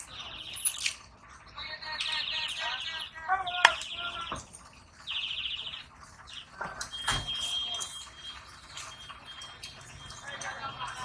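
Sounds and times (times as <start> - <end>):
small birds chattering: 0.0 - 11.0.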